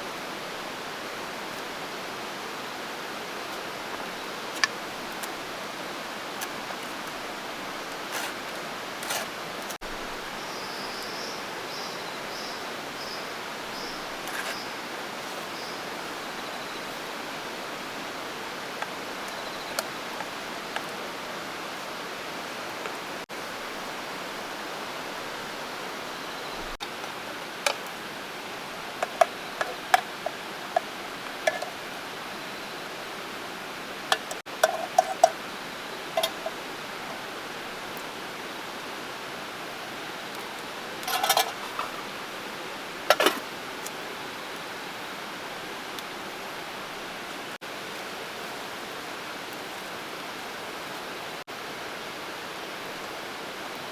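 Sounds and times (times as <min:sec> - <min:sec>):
steady rushing hiss: 0:00.0 - 0:53.9.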